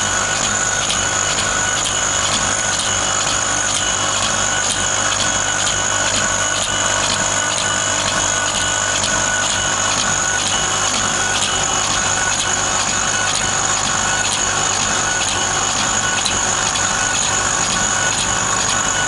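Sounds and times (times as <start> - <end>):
engraving machine whine and hum: 0.0 - 19.0.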